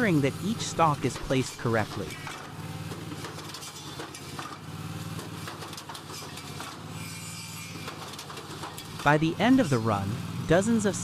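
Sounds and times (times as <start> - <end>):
machine engine hum: 0.0 - 11.0.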